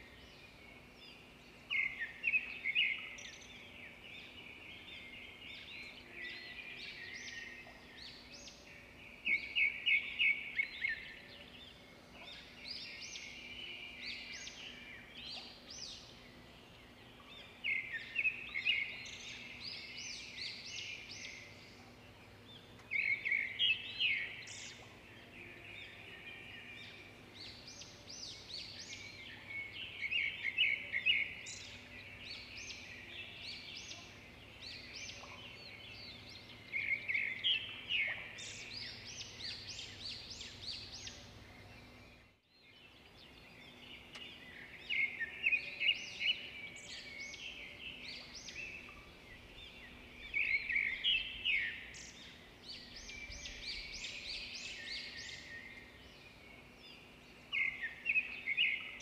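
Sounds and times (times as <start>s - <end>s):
birds singing trilled chirps: 0.0s - 59.0s.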